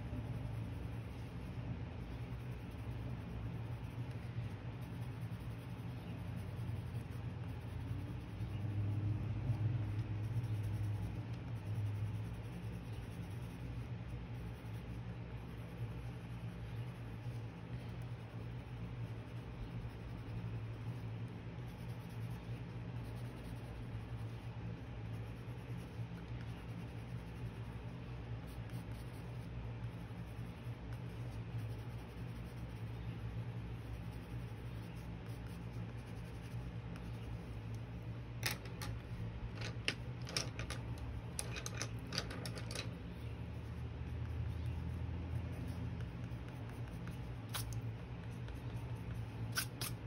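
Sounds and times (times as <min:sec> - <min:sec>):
low background hum: 0:00.0 - 0:50.0.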